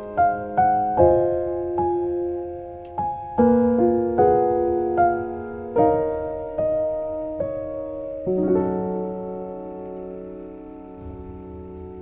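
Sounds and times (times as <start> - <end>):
gentle piano playing: 0.0 - 12.0.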